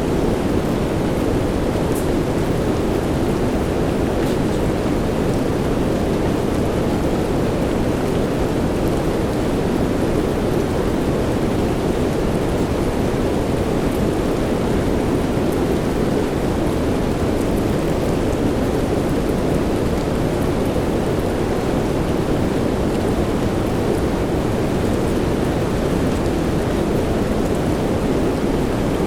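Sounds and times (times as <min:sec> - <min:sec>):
steady rain rumbling: 0:00.0 - 0:29.0.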